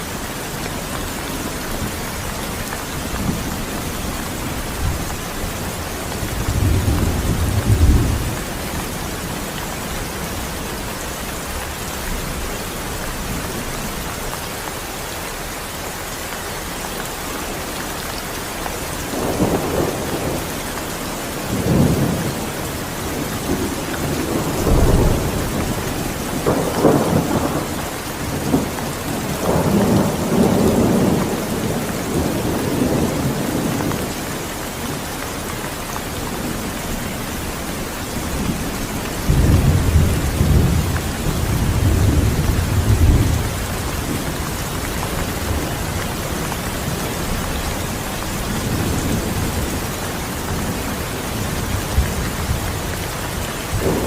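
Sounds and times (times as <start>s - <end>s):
steady rain hissing: 0.0s - 54.0s
thunder rumbling: 0.3s - 14.0s, 21.3s - 35.0s, 36.1s - 54.0s.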